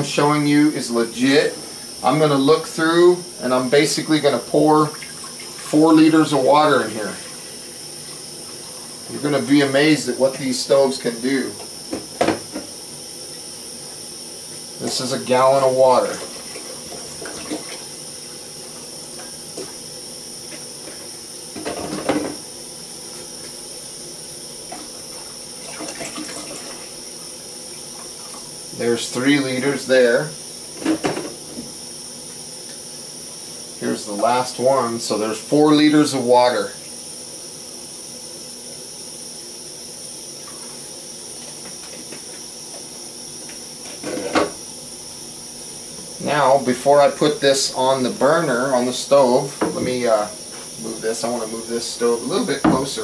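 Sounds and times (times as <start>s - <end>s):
camping stove hissing: 0.0s - 53.0s.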